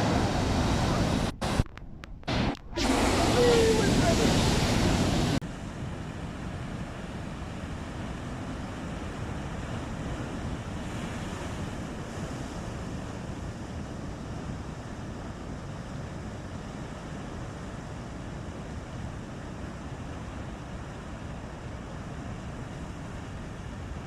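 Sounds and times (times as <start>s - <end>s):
waves rushing: 0.0s - 24.0s.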